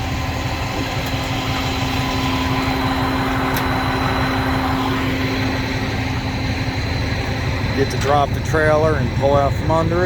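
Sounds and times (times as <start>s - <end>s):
diesel engine drone: 0.0s - 10.0s
steady hum: 0.0s - 10.0s.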